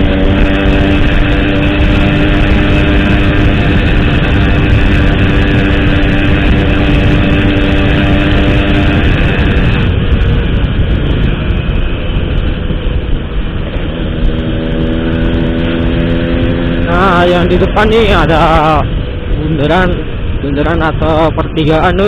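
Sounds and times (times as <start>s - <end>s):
motorcycle engine riding: 0.0s - 22.0s.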